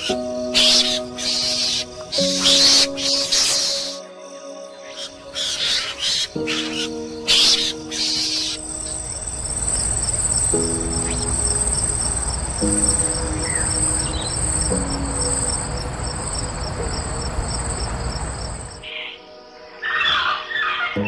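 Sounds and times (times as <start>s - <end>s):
insects chirping: 0.0s - 20.9s
soft background music chords: 0.0s - 21.0s.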